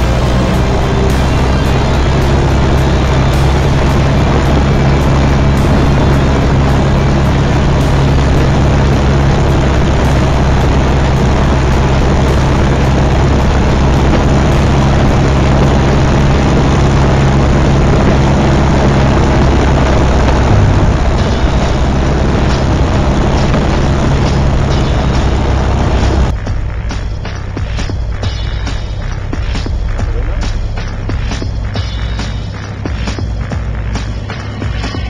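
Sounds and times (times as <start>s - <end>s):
propeller plane engine drone: 0.0s - 34.5s.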